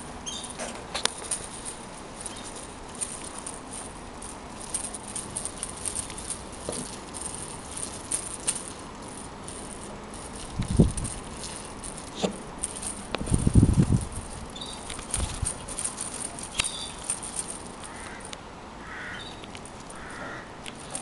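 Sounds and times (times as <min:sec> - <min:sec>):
toy rattle rattling: 0:00.0 - 0:18.4, 0:19.2 - 0:21.0.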